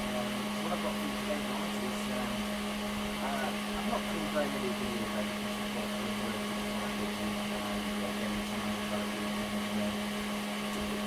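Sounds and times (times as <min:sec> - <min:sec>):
electrical hum with fan whir: 0:00.0 - 0:11.0.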